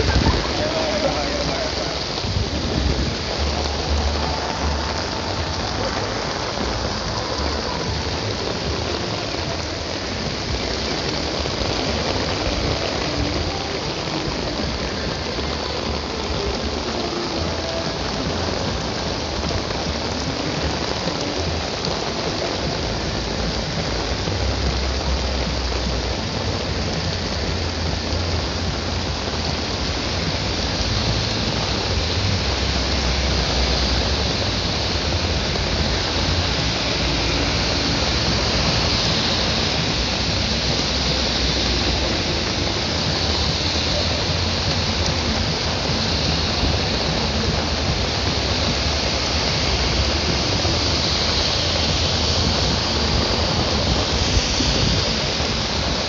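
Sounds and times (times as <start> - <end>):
heavy rain falling: 0.0 - 56.0
low rumble: 0.0 - 56.0.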